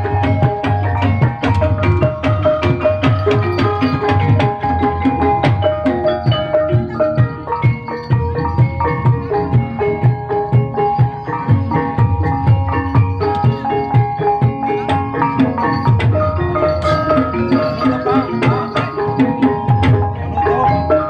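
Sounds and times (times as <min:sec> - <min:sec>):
drum strokes: 0:00.0 - 0:21.0
mallet-struck keyed instruments: 0:00.0 - 0:21.0.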